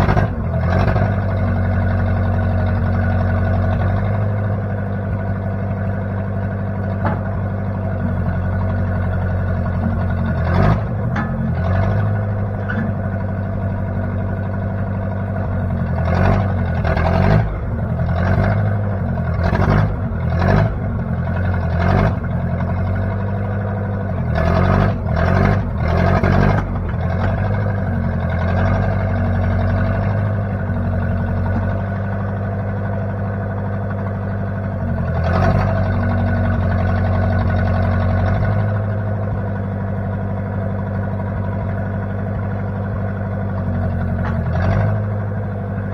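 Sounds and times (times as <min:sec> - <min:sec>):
backhoe engine running: 0:00.0 - 0:45.9.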